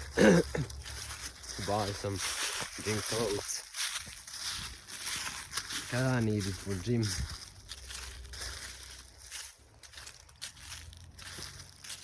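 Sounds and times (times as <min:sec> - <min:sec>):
footsteps crunching on trail: 0:00.0 - 0:12.0.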